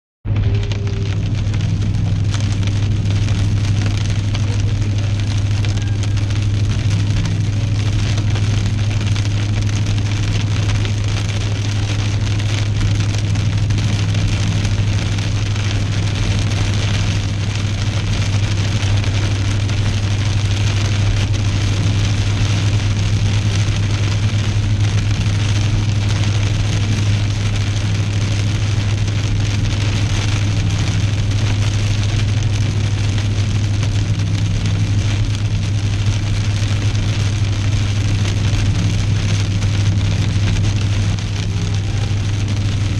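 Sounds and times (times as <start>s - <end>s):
engine and road noise: 0.2s - 42.9s
rain on car: 0.2s - 42.9s.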